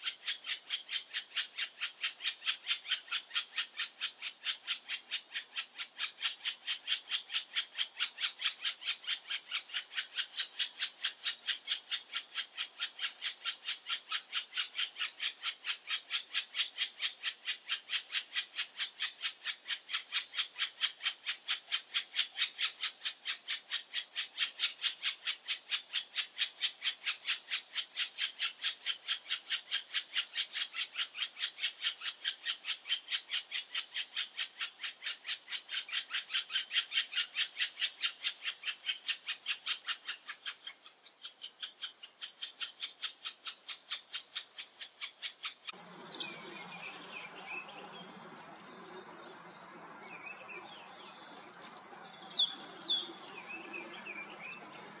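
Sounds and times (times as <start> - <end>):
nestlings raspy begging calls: 0.0 - 46.0.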